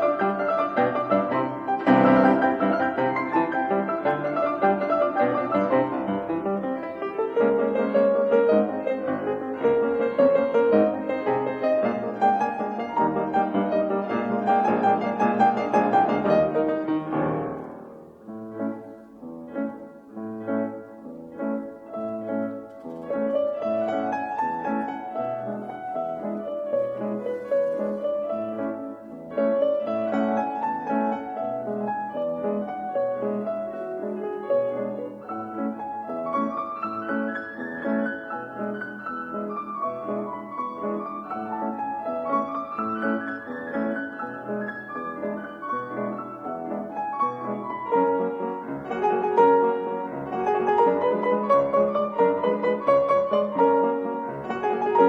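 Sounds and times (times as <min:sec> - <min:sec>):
classical piano music: 0:00.0 - 0:55.0.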